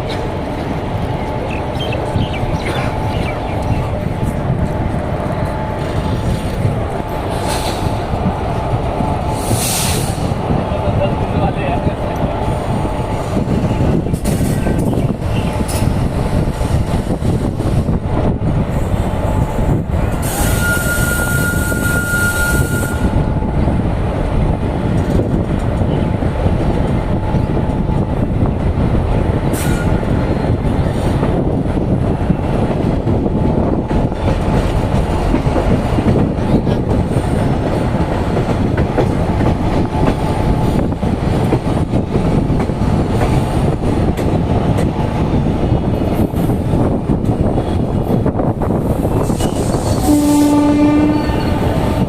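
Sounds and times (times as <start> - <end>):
train rumbling on tracks: 0.0 - 52.0.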